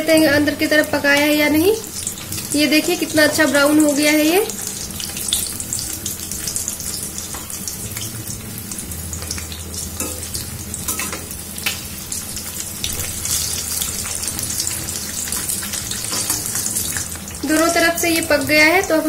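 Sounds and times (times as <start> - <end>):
fish sizzling in oil: 0.0 - 19.0
oil popping and crackling: 0.8 - 19.0.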